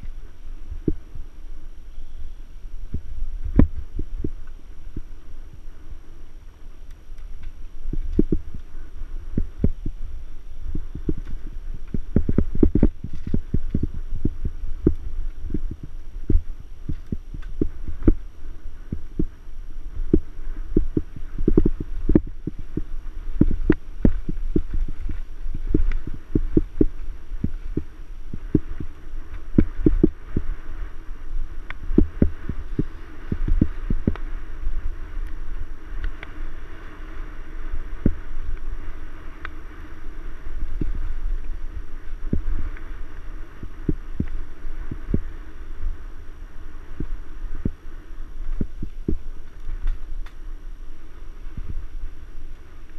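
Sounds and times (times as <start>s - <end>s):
mountain bike rumbling on rough trail: 0.0s - 52.9s.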